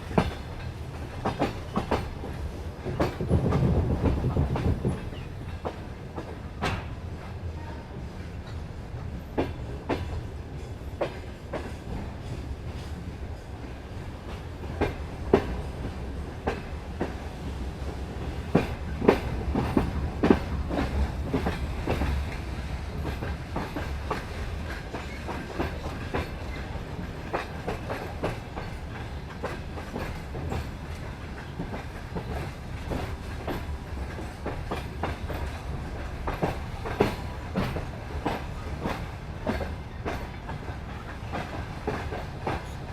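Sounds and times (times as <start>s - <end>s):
train wheels clacking over rail joints: 0.0s - 7.3s, 8.0s - 42.9s.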